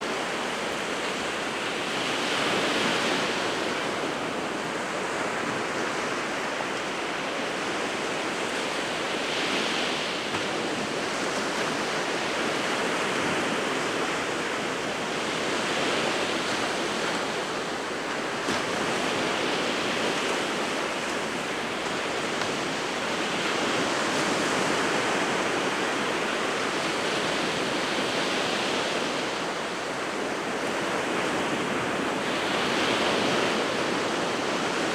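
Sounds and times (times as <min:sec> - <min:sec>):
wind: 0:00.0 - 0:34.9.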